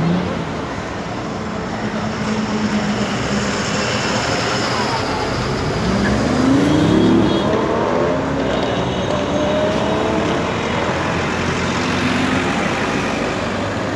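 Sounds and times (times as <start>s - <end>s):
traffic and road noise: 0.0s - 13.9s.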